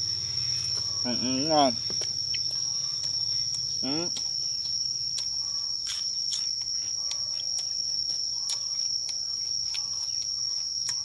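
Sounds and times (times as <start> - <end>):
insects trilling: 0.0 - 11.0
chewing on fresh greens: 1.8 - 11.0.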